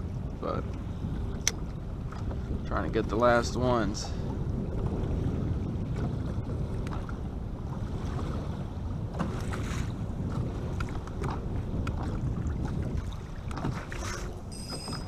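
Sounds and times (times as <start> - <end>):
waves lapping against boat hull: 0.0 - 15.0
wind buffeting microphone: 0.0 - 15.0.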